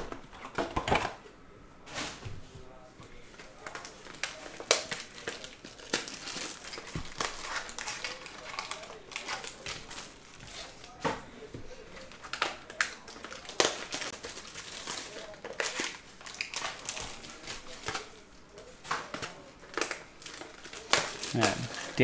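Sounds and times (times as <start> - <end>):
foil wrapper crinkling: 3.2 - 11.0, 11.9 - 22.0.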